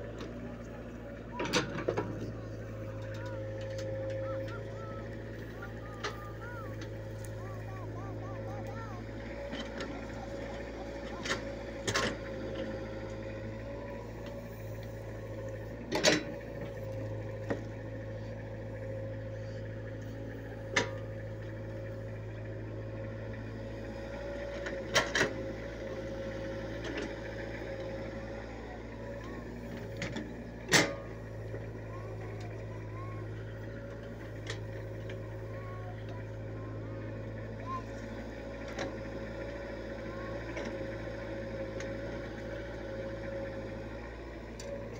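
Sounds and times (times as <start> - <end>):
excavator diesel engine droning: 0.0 - 44.9.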